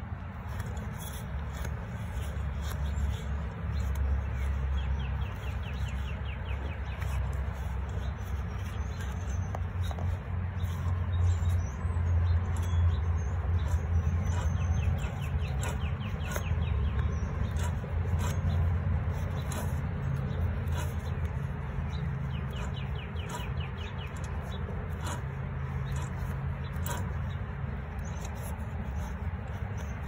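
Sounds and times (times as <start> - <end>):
birds chirping: 0.0 - 30.0
wheel hub rumbling: 0.0 - 30.0.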